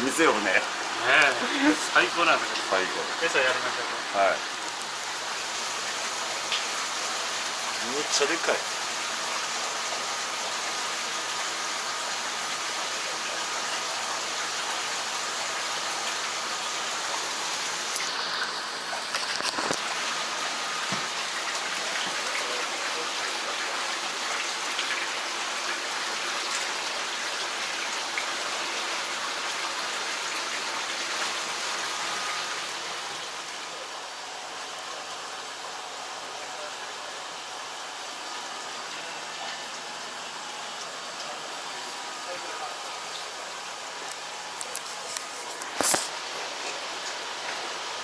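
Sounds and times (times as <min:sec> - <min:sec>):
aquarium water rushing and splashing: 0:00.0 - 0:48.0.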